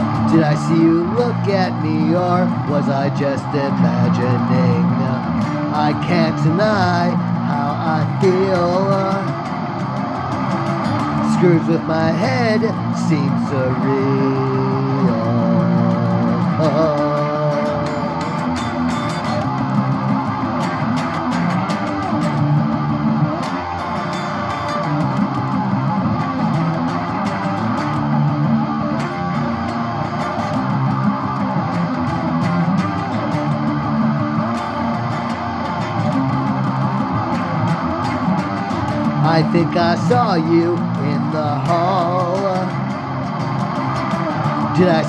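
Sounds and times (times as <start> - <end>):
guitars and bass playing: 0.0 - 45.0.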